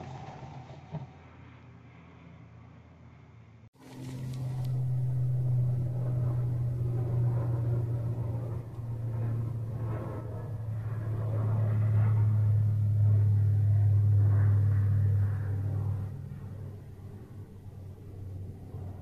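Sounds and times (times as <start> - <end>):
airplane engine drone: 0.0 - 19.0.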